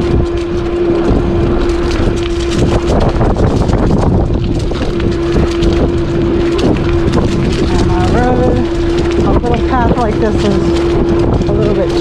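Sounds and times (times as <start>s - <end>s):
electric bike motor whining: 0.0s - 12.0s
tyres crackling over dry leaves: 0.0s - 12.0s
wind rumble on microphone: 0.0s - 12.0s.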